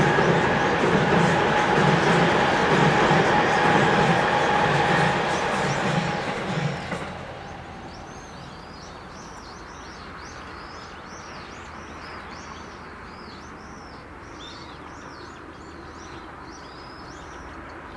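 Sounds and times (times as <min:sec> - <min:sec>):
low outdoor background noise: 0:00.0 - 0:17.9.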